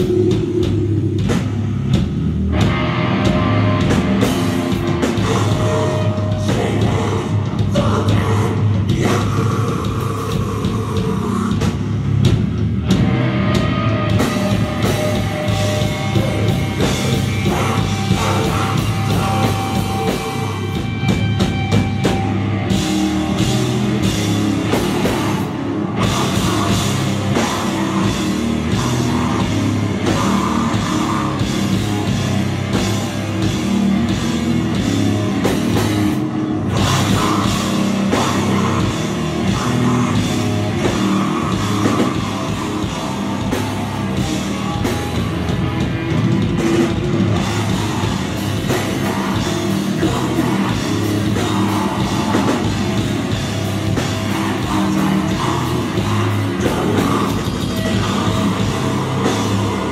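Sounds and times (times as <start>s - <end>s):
distorted electric guitars: 0.0s - 59.9s
pounding drum kit: 0.0s - 59.9s.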